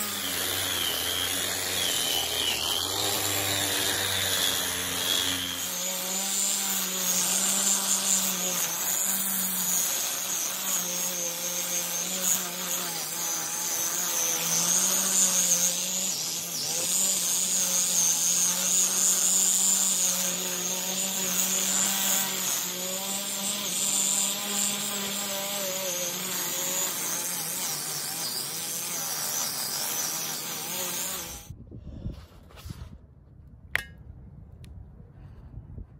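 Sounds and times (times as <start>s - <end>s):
angle grinder on metal: 0.0s - 31.5s.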